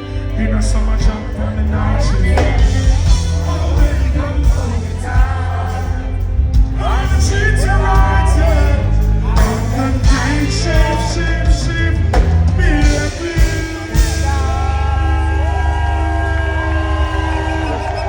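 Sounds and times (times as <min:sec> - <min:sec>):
person singing: 0:00.0 - 0:16.2
dancehall reggae music: 0:00.0 - 0:18.0.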